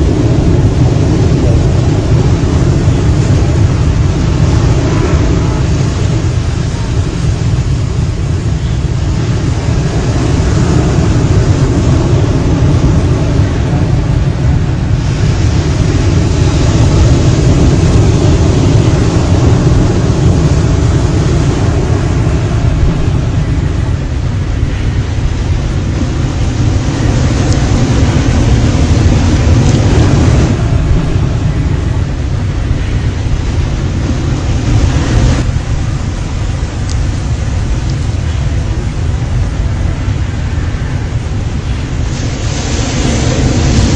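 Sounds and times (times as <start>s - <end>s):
pounding surf: 0.0s - 43.9s
strong wind buffeting microphone: 0.0s - 43.9s.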